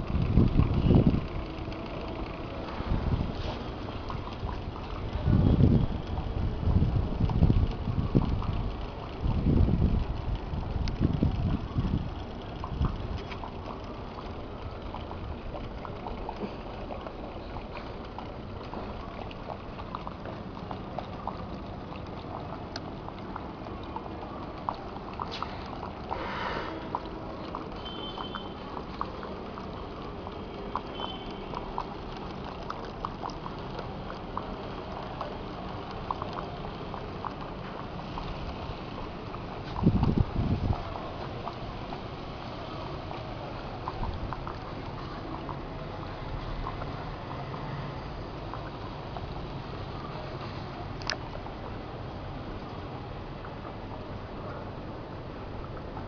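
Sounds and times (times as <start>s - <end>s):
water drips: 0.0s - 56.0s
water trickling and splashing: 0.0s - 56.0s.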